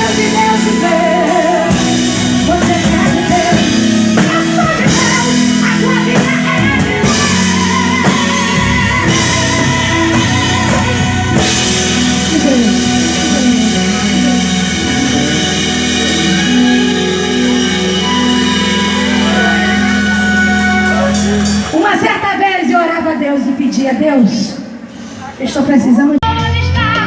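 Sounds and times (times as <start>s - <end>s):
electric guitar lines: 0.0s - 22.4s
live rock-style band playing: 0.0s - 22.8s, 26.2s - 27.0s.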